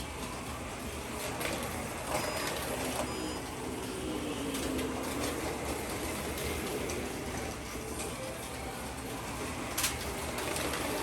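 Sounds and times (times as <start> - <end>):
slot cars rattling: 0.0 - 11.0.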